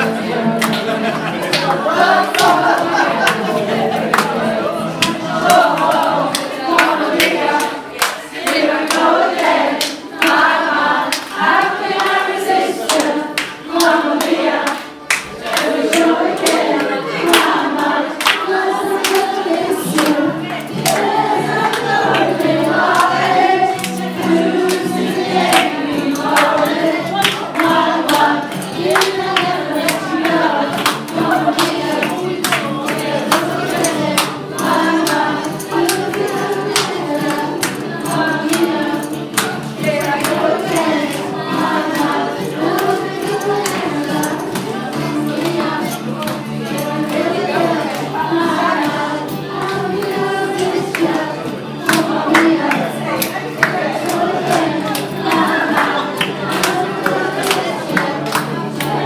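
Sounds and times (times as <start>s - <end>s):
group singing over backing music: 0.0s - 59.0s.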